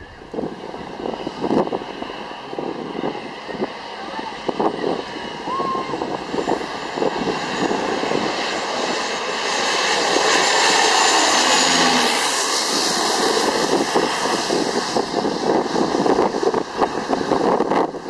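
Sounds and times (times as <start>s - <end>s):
turboprop plane passing overhead: 0.0s - 18.0s.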